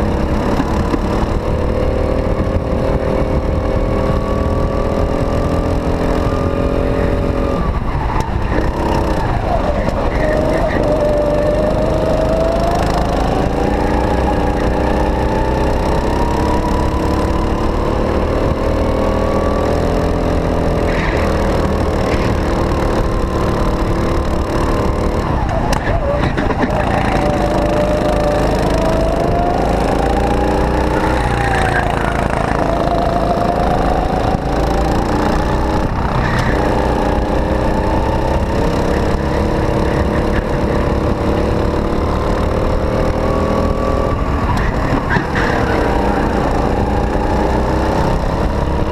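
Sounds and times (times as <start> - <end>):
go-kart engine revving: 0.0 - 48.9.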